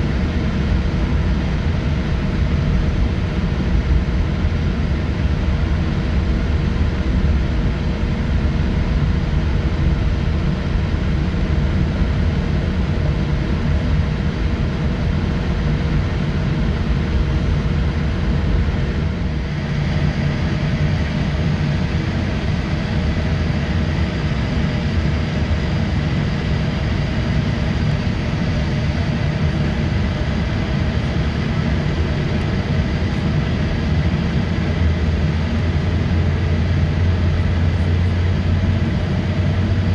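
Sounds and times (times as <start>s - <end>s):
jet engines low rumble: 0.0s - 39.9s.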